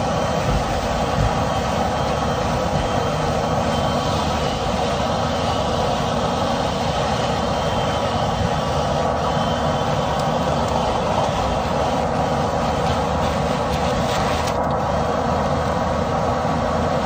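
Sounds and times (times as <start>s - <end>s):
vent cleaning machine whirring: 0.0s - 17.0s.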